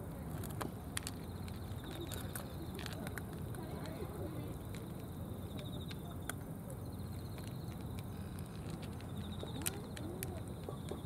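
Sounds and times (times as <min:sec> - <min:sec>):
cats crunching dry kibble: 0:00.0 - 0:11.0
outdoor background hiss: 0:00.0 - 0:11.0.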